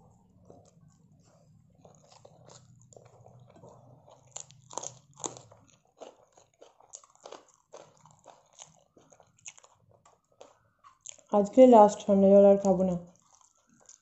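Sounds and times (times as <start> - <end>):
crisp crunches and wet chewing: 0.4 - 11.3, 13.1 - 14.0.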